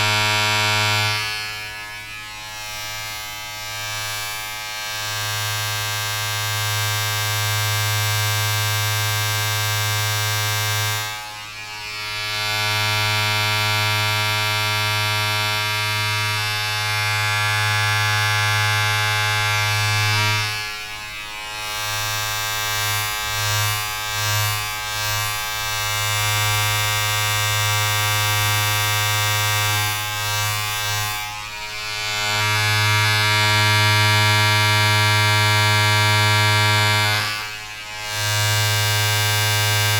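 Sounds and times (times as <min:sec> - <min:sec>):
small electric motor buzzing: 0:00.0 - 0:39.9.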